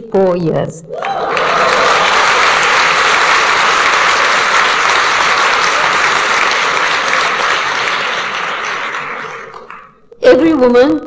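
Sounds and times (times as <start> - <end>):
audience applauding: 0.9 - 10.0.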